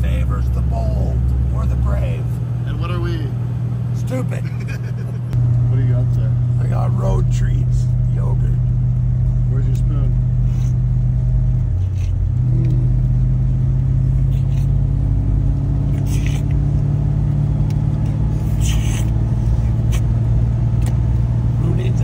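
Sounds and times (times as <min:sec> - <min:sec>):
car engine and road hum: 0:00.0 - 0:22.0.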